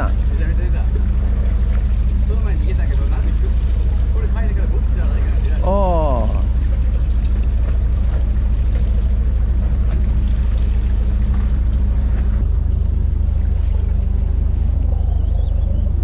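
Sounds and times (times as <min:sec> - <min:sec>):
boat engine running: 0:00.0 - 0:16.0
water noise: 0:00.0 - 0:16.0.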